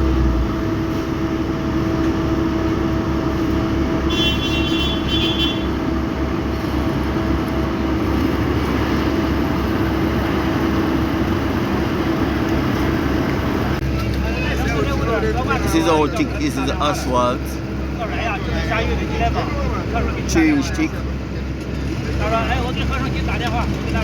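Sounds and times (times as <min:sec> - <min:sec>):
heavy diesel machinery drone: 0:00.0 - 0:24.0.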